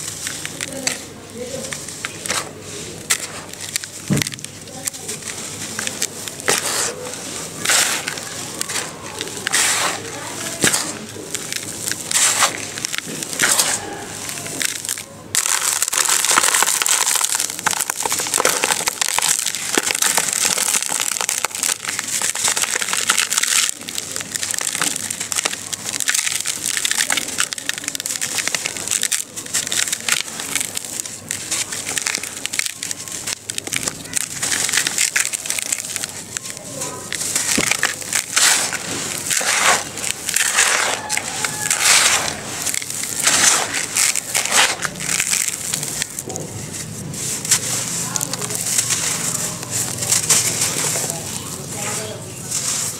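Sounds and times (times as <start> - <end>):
dry powder crunching by hand: 0.0 - 52.9
grains pouring: 0.0 - 52.9.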